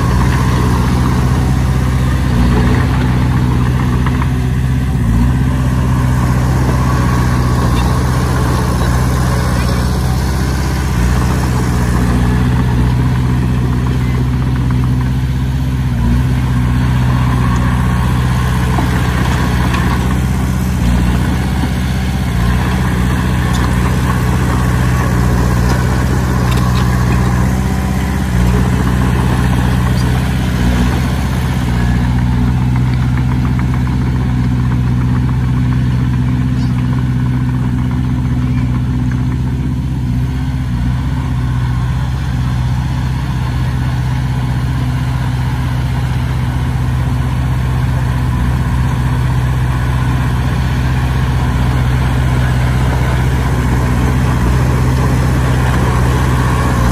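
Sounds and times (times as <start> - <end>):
large diesel engine running: 0.0 - 56.9.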